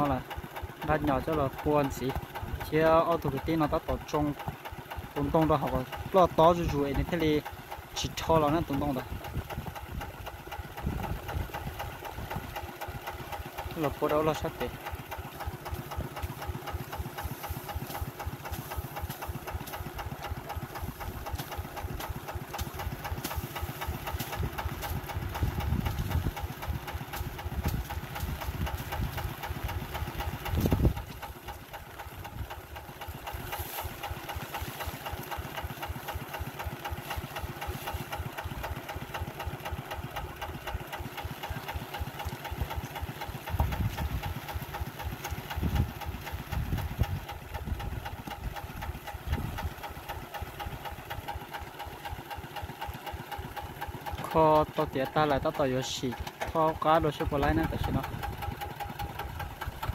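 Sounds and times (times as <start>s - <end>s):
tractor diesel engine knocking: 0.0s - 59.9s.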